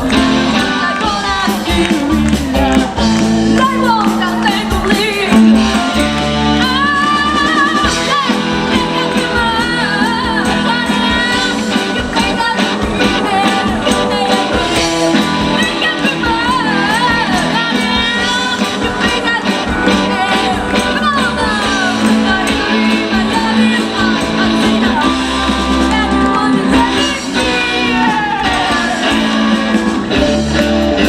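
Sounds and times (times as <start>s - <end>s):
lead vocal singing: 0.0s - 31.0s
live rock-pop band playing: 0.0s - 31.0s
steady drums: 0.0s - 31.0s.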